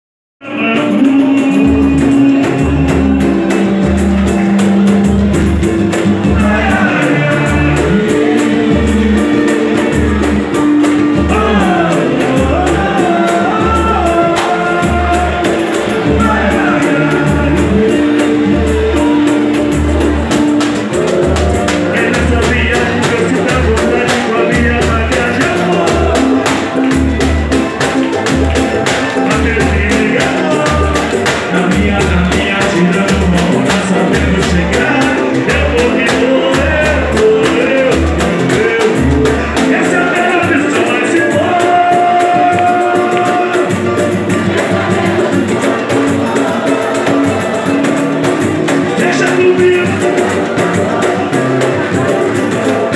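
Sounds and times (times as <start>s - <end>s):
man singing into a microphone: 0.4s - 26.8s, 29.0s - 52.9s
hand drums: 0.4s - 52.9s
strummed small guitars: 0.4s - 52.9s
low drum beat: 0.5s - 52.9s.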